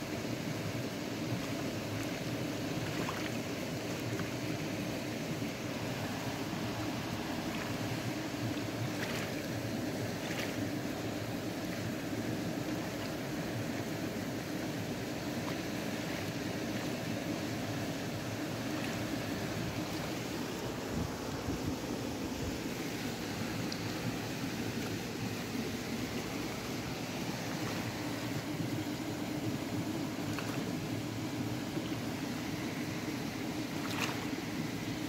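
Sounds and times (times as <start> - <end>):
stream water flowing over gravel: 0.0 - 35.0.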